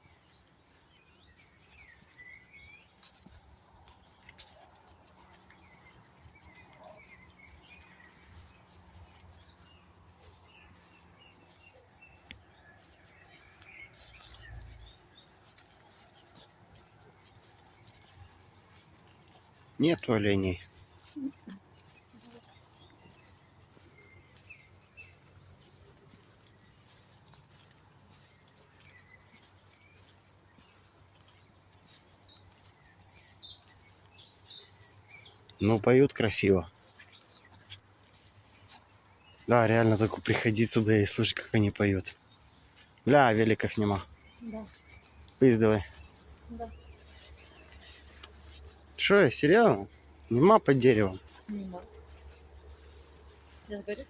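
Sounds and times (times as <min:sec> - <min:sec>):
faint songbirds chirping: 0:00.0 - 0:54.0.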